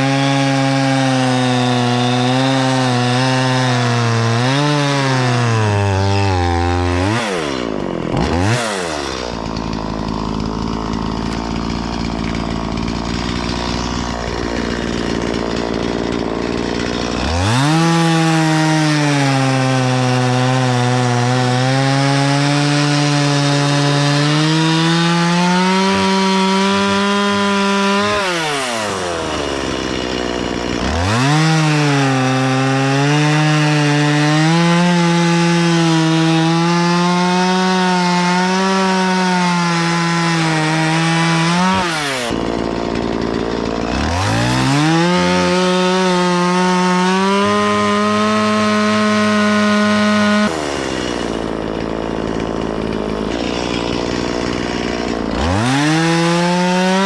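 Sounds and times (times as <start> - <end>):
chainsaw idling and cutting wood: 0.0 - 57.0.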